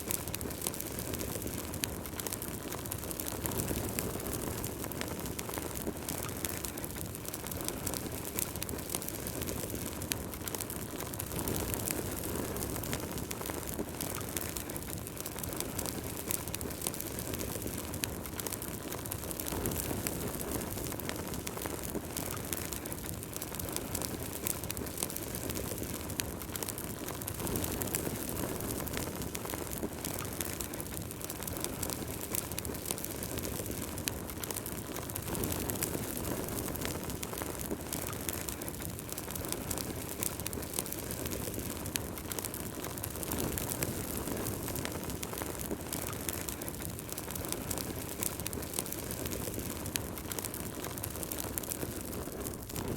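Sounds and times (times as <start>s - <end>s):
fire crackling and popping: 0.0s - 52.9s
low rush of flames: 0.0s - 52.9s.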